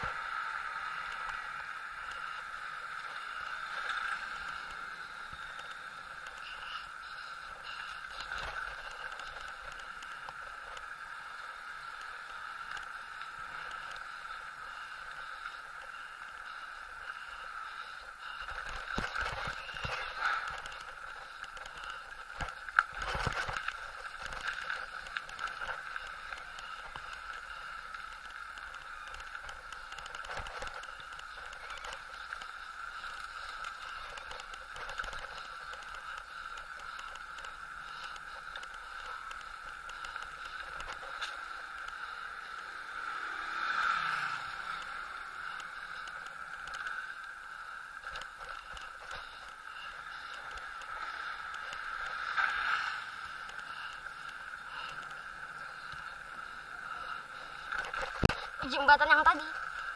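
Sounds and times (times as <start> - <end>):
bicycle tyre noise on asphalt: 0.0 - 59.9.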